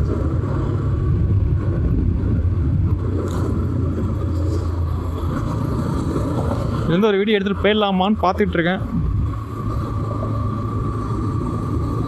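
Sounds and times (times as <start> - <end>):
motorcycle engine rumble: 0.0 - 12.0
road and wind noise: 0.0 - 12.0.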